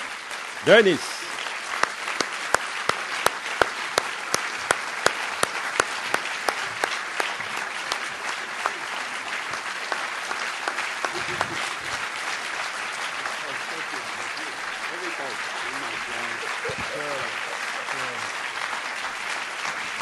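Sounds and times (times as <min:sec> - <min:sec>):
audience applauding: 0:00.0 - 0:20.0
close sharp hand claps: 0:00.0 - 0:20.0.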